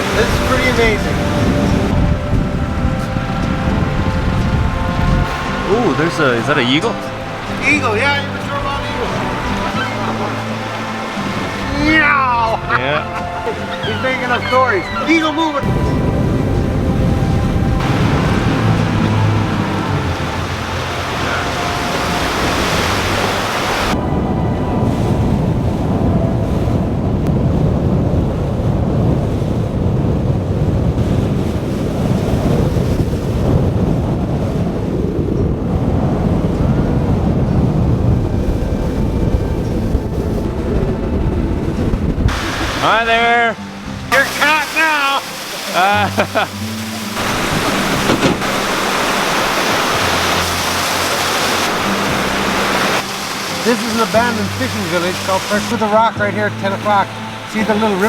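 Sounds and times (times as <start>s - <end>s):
boat engine drone: 0.0s - 58.0s
water noise: 0.0s - 58.0s
wind buffeting microphone: 0.0s - 58.0s.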